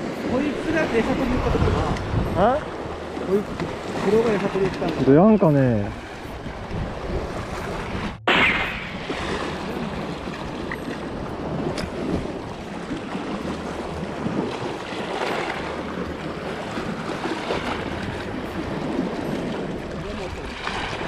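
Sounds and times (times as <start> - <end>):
sea waves on rocks: 0.0 - 21.0
wind buffeting microphone: 0.0 - 21.0.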